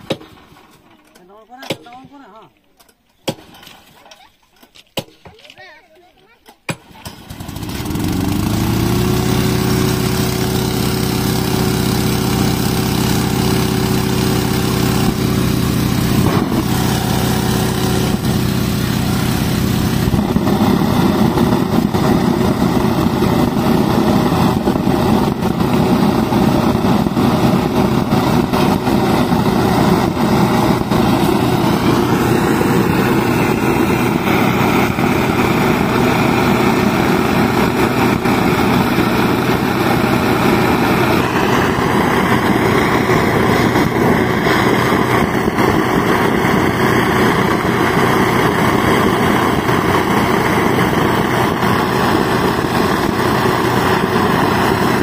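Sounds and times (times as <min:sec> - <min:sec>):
small petrol engine running: 0:06.8 - 0:55.0.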